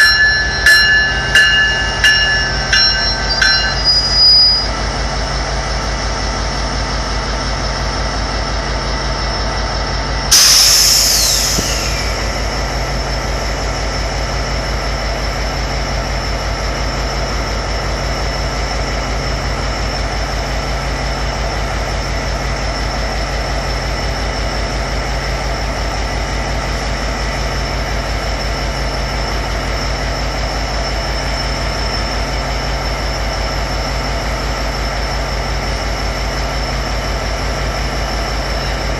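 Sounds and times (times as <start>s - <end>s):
diesel locomotive idling: 0.0s - 38.9s.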